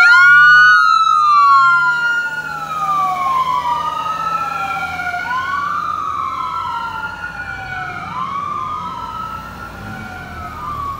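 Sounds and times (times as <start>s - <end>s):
ambulance siren wailing: 0.0s - 10.9s.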